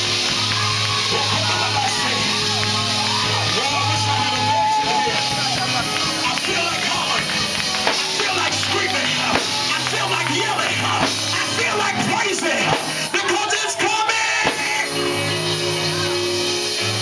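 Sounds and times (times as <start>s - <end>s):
drum kit: 0.0s - 17.0s
live band music: 0.0s - 17.0s.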